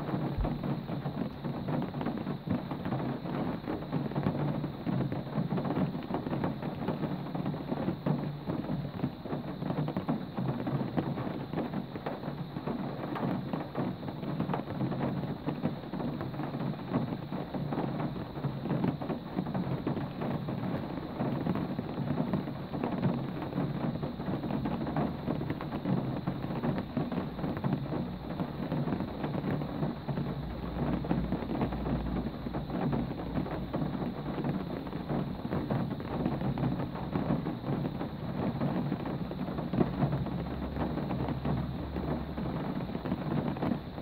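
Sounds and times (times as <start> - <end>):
steady rain patter: 0.0 - 44.0.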